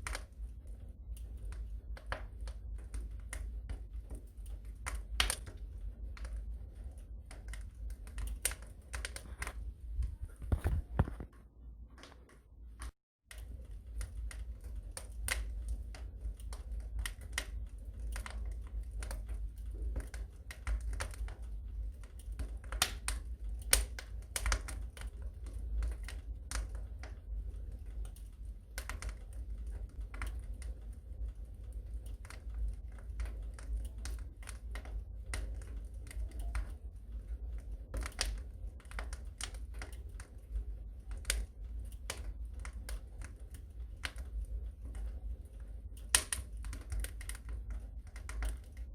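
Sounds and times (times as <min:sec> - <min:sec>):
fire crackling: 0:00.0 - 0:48.9
low steady rumble: 0:00.0 - 0:48.9.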